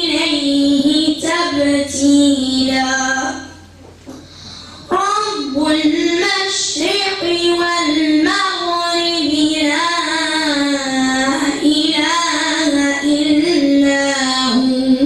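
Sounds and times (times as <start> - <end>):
boy chanting melodically: 0.0 - 3.6, 4.9 - 15.0.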